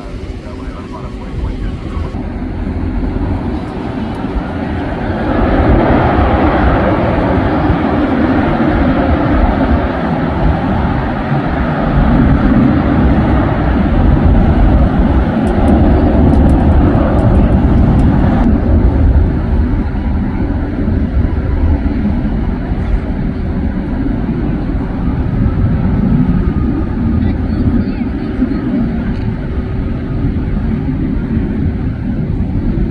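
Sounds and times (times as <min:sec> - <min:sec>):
jet engine rumble: 0:00.0 - 0:32.9.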